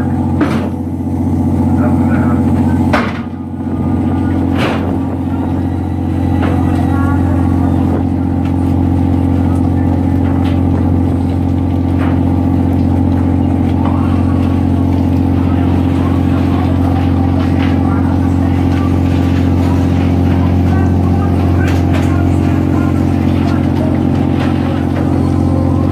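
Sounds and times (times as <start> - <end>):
boat engine drone: 0.0 - 25.9.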